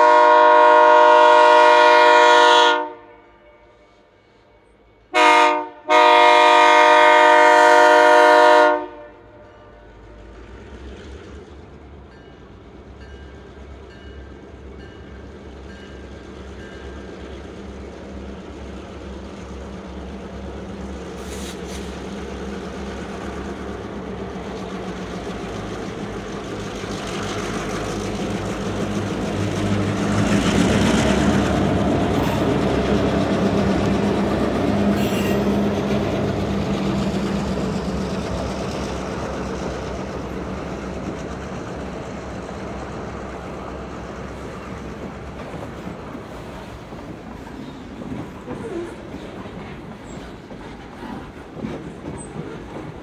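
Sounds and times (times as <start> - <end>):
freight train passing: 0.0 - 53.0.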